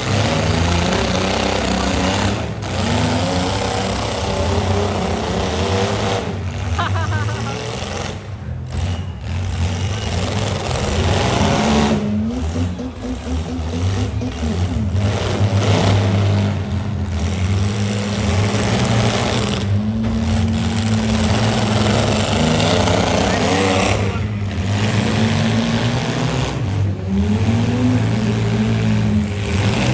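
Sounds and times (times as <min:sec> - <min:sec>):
car engines revving loudly: 0:00.0 - 0:29.9.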